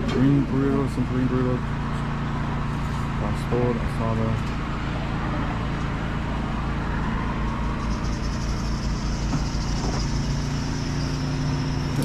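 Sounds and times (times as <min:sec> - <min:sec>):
engine idling hum: 0:00.0 - 0:12.0.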